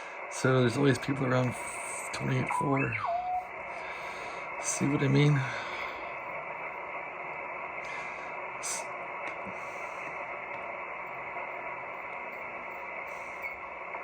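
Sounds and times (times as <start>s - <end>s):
radio static: 0.4s - 14.0s.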